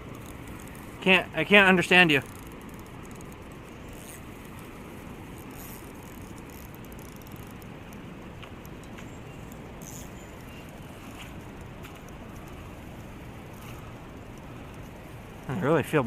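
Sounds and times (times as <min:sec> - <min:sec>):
faint ticks and chirps: 0:00.0 - 0:04.7, 0:05.3 - 0:15.7.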